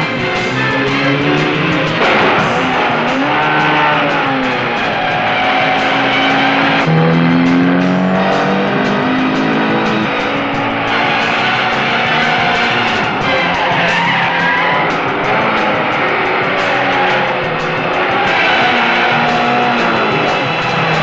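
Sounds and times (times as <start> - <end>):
car engines revving hard: 0.0 - 21.0
film score music: 0.0 - 21.0.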